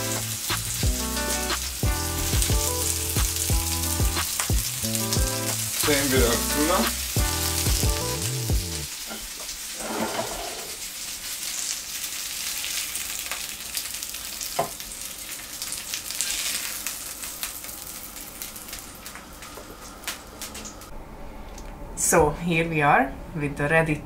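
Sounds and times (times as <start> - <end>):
oil sizzling in frying pan: 0.0 - 20.9.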